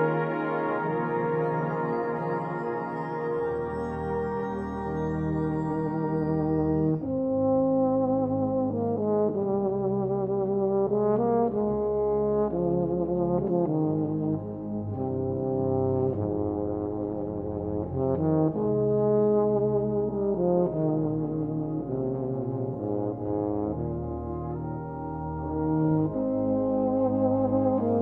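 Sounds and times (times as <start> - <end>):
brass instrument melody: 0.0 - 28.0.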